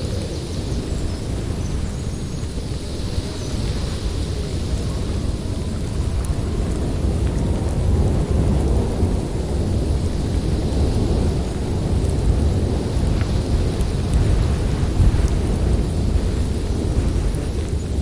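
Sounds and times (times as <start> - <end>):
wind rushing: 0.0 - 18.0.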